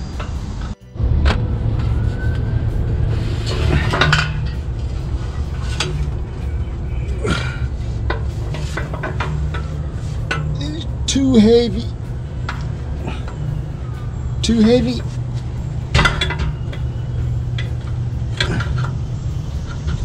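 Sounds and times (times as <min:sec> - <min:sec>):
background music: 0:00.0 - 0:20.0
metal pipe clinking: 0:03.5 - 0:20.0.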